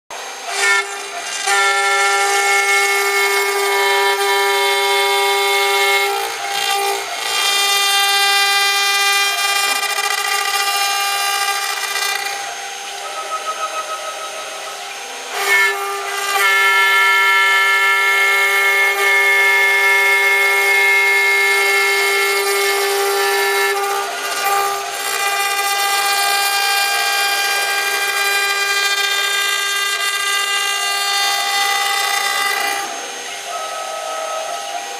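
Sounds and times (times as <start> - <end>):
router spindle high-pitched whine: 0.1 - 34.9.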